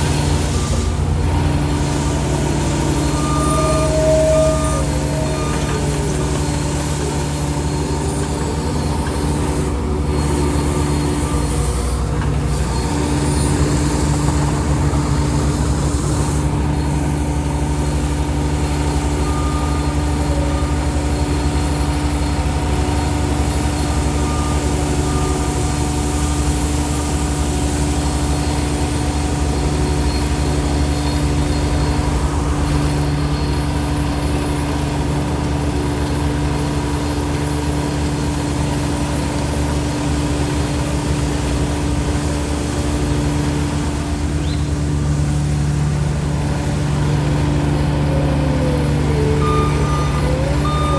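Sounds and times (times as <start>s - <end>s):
road roller diesel engine running: 0.0s - 50.9s.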